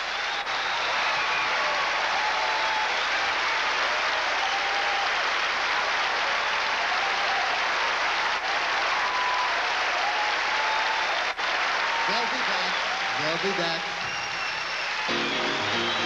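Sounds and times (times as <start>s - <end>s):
audience applauding and cheering: 0.0s - 16.0s.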